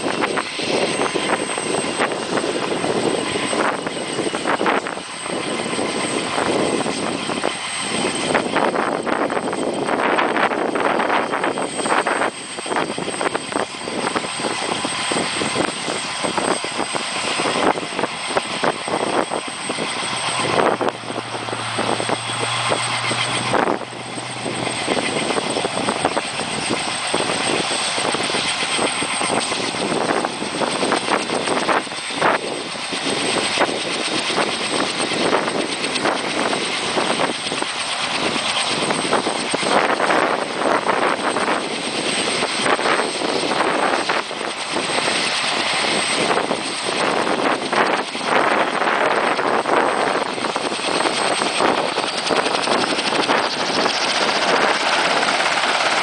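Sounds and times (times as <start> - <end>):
helicopter turbine and rotor noise: 0.0 - 56.0.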